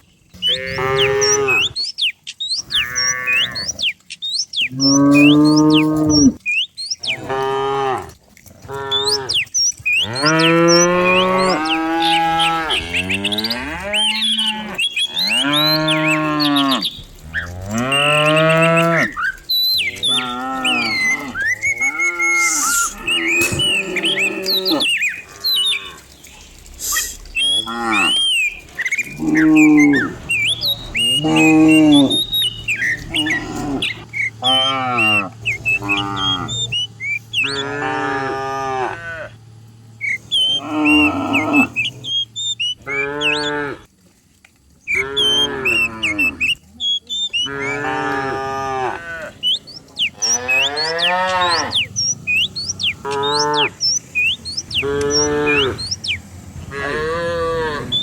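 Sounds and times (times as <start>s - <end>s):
cows mooing: 0.3s - 1.9s, 2.6s - 4.0s, 4.6s - 43.9s, 44.9s - 58.0s.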